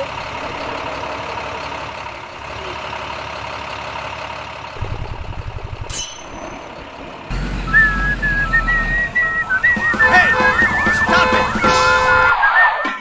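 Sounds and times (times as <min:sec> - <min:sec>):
truck engine rumbling: 0:00.0 - 0:05.9, 0:06.7 - 0:12.8.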